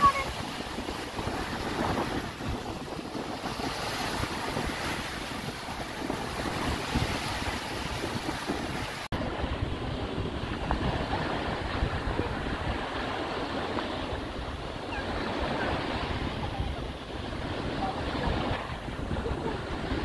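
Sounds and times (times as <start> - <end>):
surf washing on a beach: 0.0 - 20.0
wind buffeting microphone: 0.0 - 20.0.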